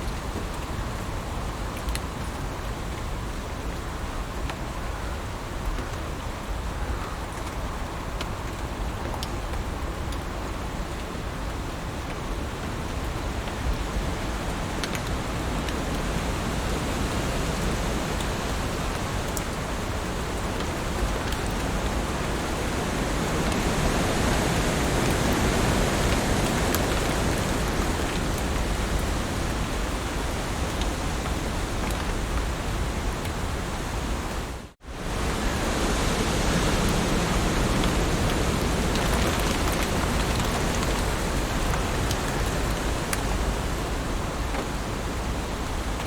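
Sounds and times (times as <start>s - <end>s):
heavy rain falling: 7.4s - 46.0s.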